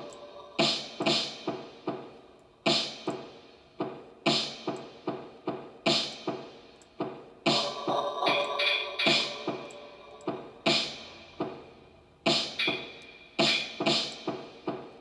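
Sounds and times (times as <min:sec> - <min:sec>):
drums playing a beat: 0:00.0 - 0:15.0.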